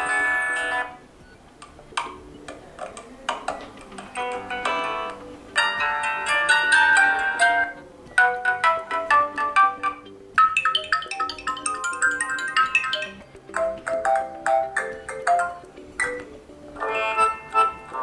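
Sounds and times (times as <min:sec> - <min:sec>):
phone ringtone melodies: 0:00.0 - 0:02.6, 0:03.5 - 0:18.0.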